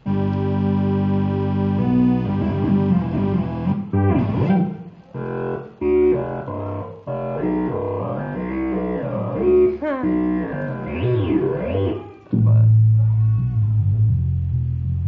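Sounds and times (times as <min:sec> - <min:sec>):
synthesizer notes sliding: 0:00.0 - 0:13.0
low synthesizer bass note: 0:00.1 - 0:13.1, 0:13.7 - 0:15.0.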